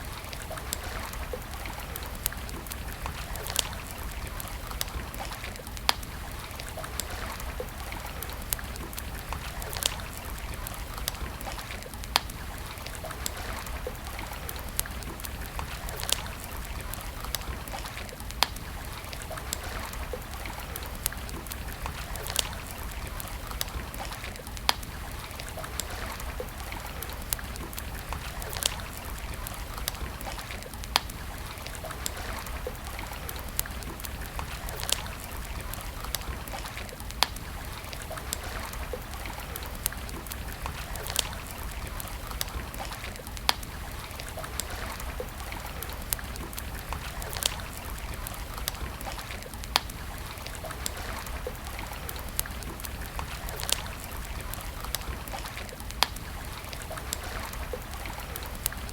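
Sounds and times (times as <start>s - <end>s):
campfire crackling and popping: 0.0s - 58.9s
stream trickling: 0.0s - 58.9s.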